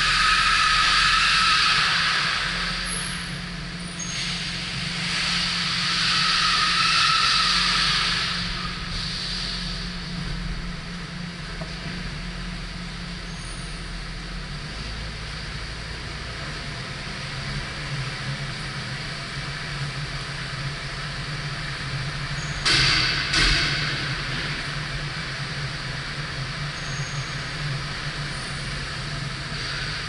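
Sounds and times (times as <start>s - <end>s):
car driving hum: 0.0s - 30.0s.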